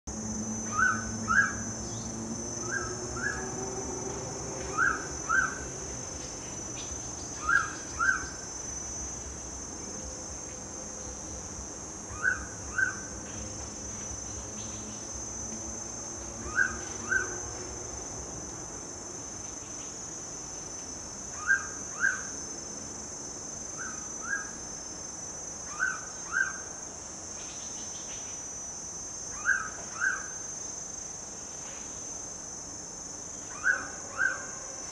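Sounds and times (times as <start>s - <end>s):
insects droning: 0.1s - 34.9s.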